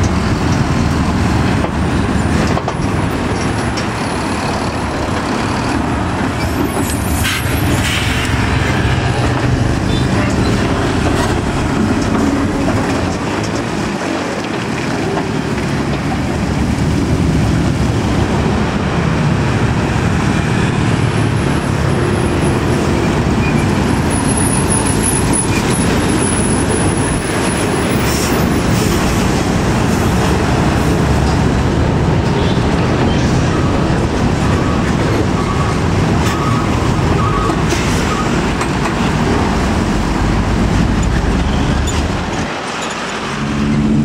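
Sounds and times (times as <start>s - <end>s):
heavy diesel trucks passing: 0.0s - 44.0s
tyre and road noise: 0.0s - 44.0s.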